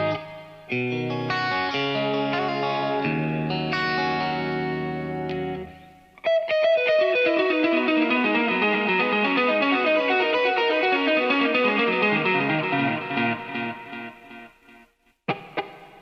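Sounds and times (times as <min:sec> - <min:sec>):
electric guitar ringing chords: 0:00.0 - 0:16.0
plucked guitar notes: 0:00.0 - 0:16.0.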